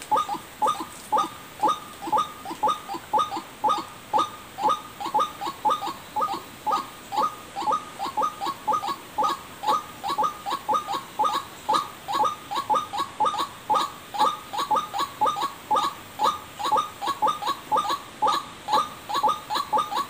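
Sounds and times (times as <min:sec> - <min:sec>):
waterhen call: 0:00.0 - 0:20.0.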